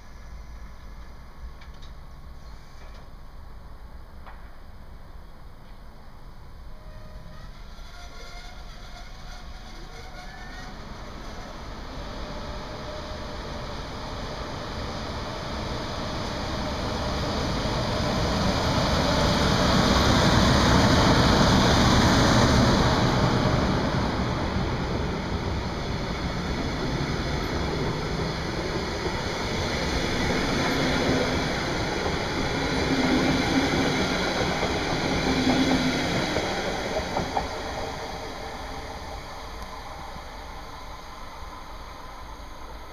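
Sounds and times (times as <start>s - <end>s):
train wheels rolling on rails: 6.8s - 42.9s.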